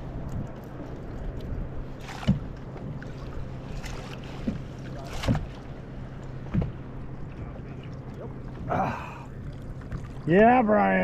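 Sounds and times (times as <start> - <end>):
steady low hum: 0.0 - 11.0
water splashing against kayak hull: 0.0 - 11.0.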